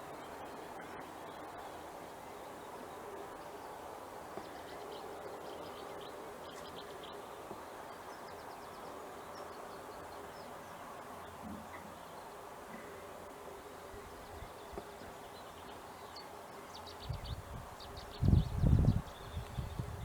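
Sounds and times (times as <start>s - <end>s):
outdoor background hiss: 0.0s - 20.0s
songbirds singing: 2.4s - 20.0s.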